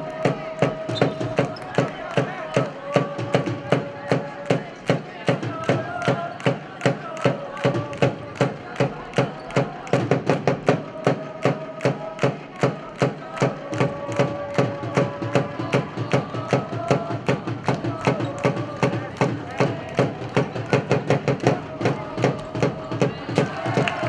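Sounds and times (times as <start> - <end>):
drum beaten in steady rhythm: 0.0 - 24.0.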